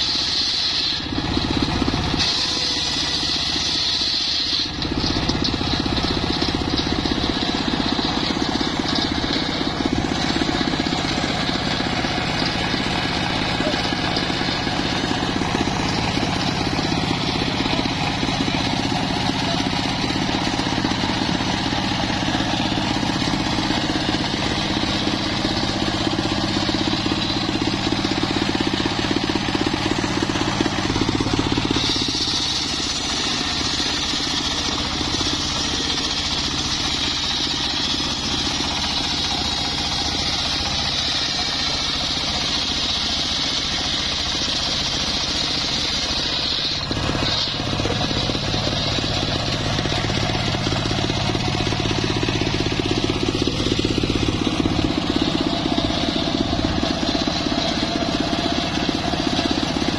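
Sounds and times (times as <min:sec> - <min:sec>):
circular saw running: 0:00.0 - 0:59.9
saw blade cutting log hiss: 0:00.0 - 0:59.9.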